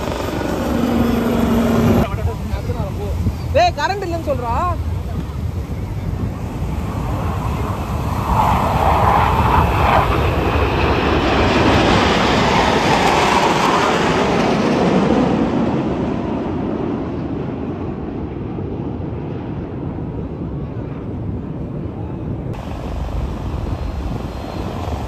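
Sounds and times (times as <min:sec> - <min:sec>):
jet aircraft roaring past: 0:00.0 - 0:25.0.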